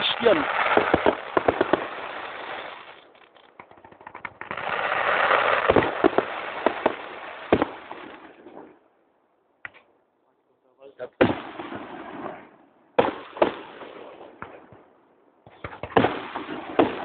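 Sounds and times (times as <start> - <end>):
fireworks crackling and banging: 0.0 - 8.9, 11.1 - 17.0.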